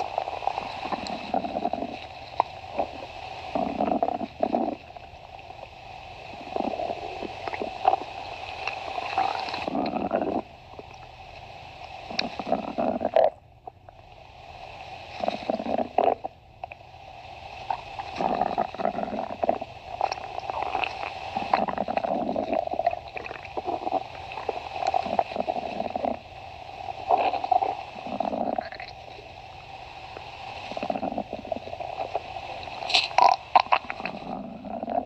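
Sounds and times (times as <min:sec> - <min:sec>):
stomach growling: 0:00.0 - 0:14.1, 0:15.1 - 0:16.8, 0:17.5 - 0:35.0.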